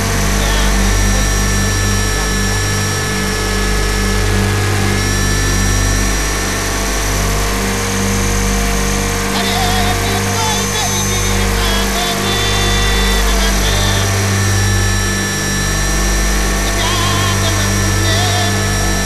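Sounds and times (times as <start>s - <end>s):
high whine of helicopter drive: 0.0s - 19.0s.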